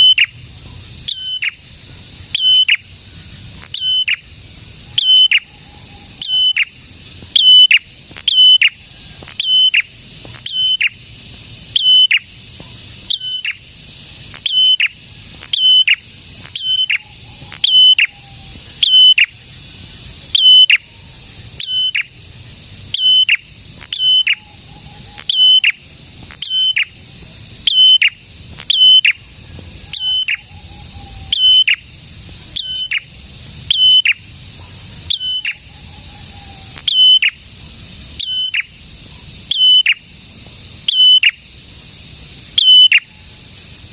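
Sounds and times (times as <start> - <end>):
small bird whistling call: 0.0 - 11.0, 11.7 - 13.6, 14.3 - 19.5, 20.3 - 22.2, 22.9 - 27.0, 27.6 - 31.9, 32.5 - 33.1, 33.7 - 37.5, 38.1 - 40.1, 40.8 - 41.5, 42.6 - 43.4
faint steady hiss: 0.0 - 43.9.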